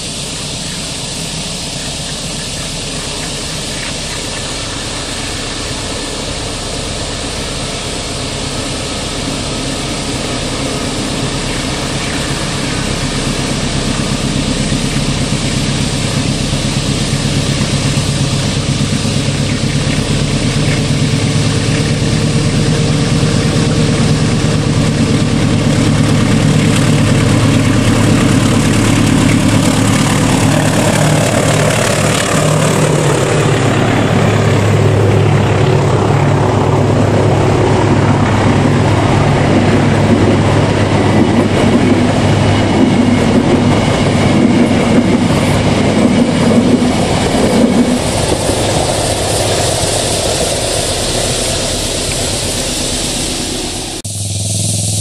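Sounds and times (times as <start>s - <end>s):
locomotive engine droning: 0.0s - 55.0s.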